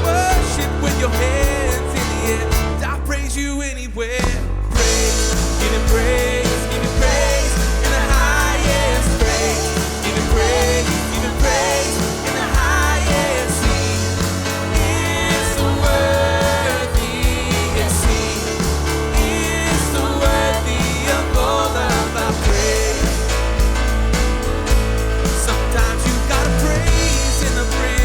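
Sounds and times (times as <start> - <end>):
drums: 0.0 - 3.4, 4.0 - 28.0
person singing with vibrato: 0.0 - 24.3, 25.2 - 28.0
bass guitar: 0.0 - 28.0
piano: 0.0 - 28.0.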